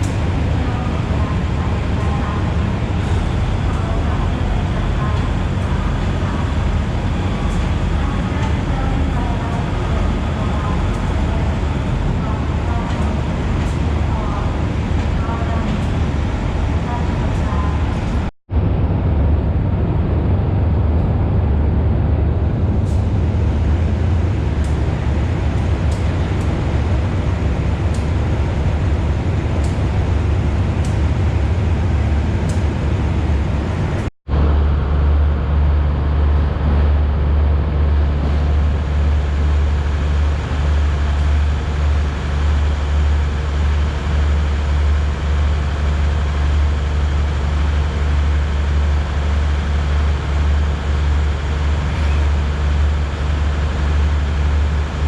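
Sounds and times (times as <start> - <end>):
low vehicle rumble: 0.0 - 55.0.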